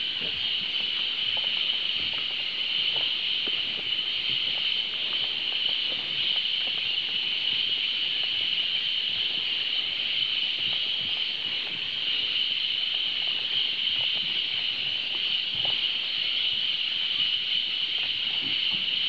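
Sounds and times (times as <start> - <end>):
rainforest insect chorus: 0.0 - 19.0.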